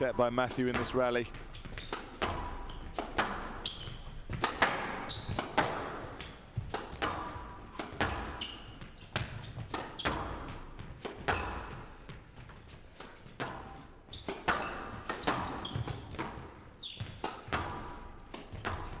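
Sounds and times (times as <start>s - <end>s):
shoes squeaking on court: 0.1s - 19.0s
squash ball hitting rackets and walls: 0.5s - 19.0s.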